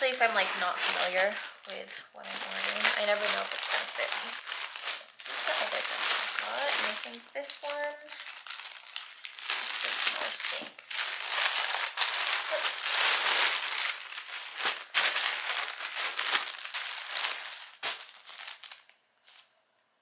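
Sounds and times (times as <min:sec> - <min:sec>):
packaging crinkling and rustling: 0:00.0 - 0:19.5.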